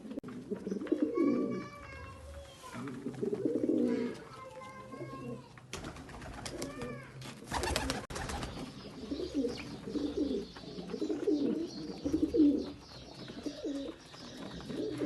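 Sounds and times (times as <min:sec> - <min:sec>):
pigeons cooing: 0:00.0 - 0:01.8, 0:02.8 - 0:04.2, 0:04.9 - 0:15.0.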